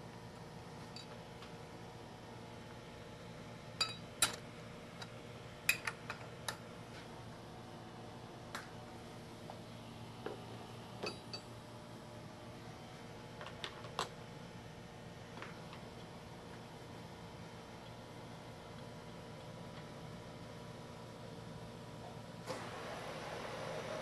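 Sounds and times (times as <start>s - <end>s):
faint steady hum: 0.0s - 22.6s.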